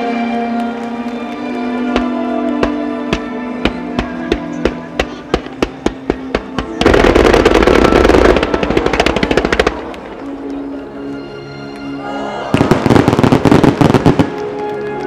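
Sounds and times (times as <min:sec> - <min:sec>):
music with sustained tones: 0:00.0 - 0:15.0
fireworks popping and crackling: 0:00.4 - 0:10.8, 0:12.5 - 0:15.0.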